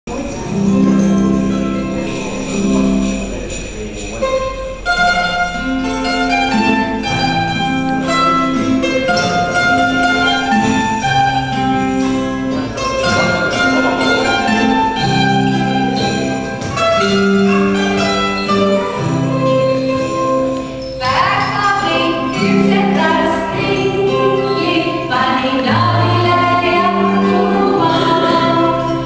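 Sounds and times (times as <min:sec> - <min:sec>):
acoustic guitar melody: 0:00.1 - 0:29.0.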